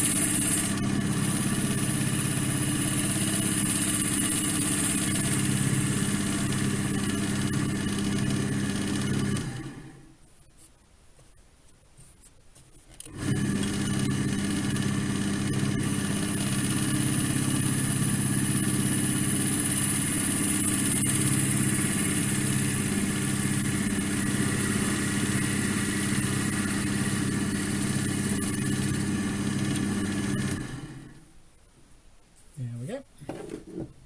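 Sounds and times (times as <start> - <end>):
wood lathe humming and whining: 0.0 - 10.0, 13.0 - 31.2.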